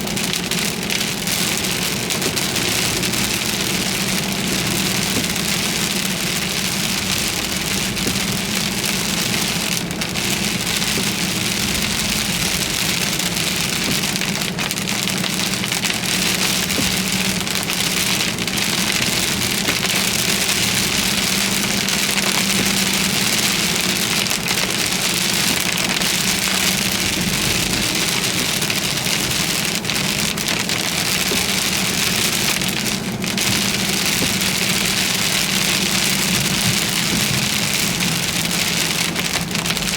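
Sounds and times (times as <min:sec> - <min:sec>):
heavy rain on a car: 0:00.0 - 0:39.9
low vehicle hum: 0:00.0 - 0:39.9.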